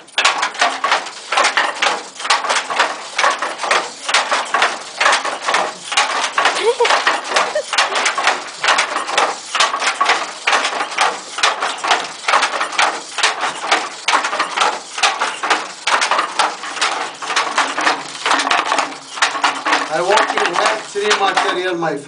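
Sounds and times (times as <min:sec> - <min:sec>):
wooden handloom clacking: 0:00.0 - 0:21.8.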